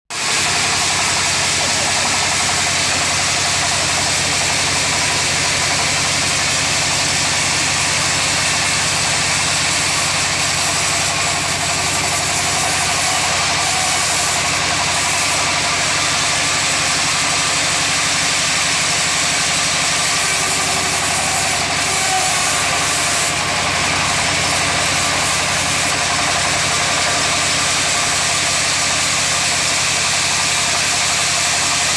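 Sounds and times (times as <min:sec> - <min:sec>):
bandsaw running: 0:00.1 - 0:31.9.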